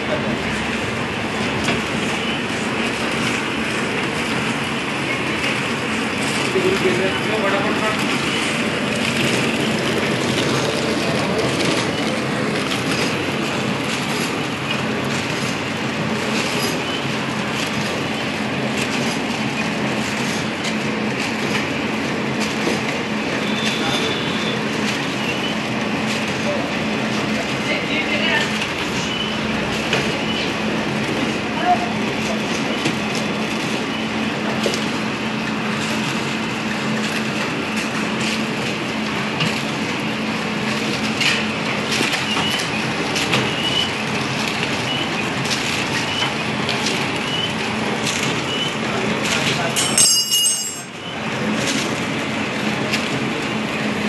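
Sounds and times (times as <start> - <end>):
packing machine clattering: 0.1 - 54.0.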